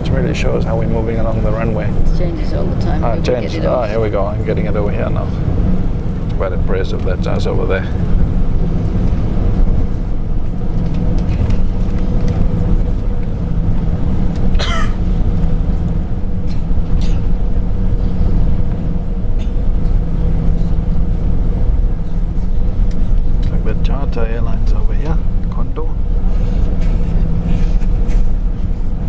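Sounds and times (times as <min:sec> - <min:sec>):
airplane cabin rumble: 0:00.0 - 0:29.0
jet engine hum: 0:00.0 - 0:29.0.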